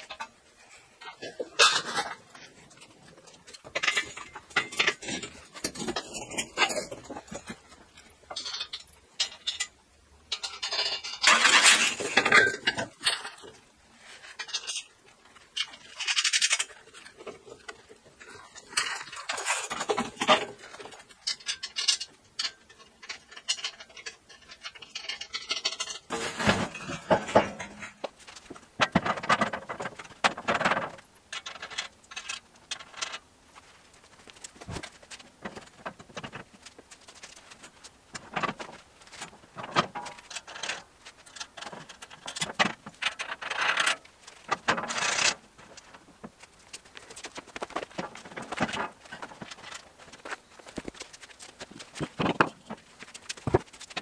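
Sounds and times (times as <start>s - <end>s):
steel parts clinking and scraping: 0.0s - 54.0s.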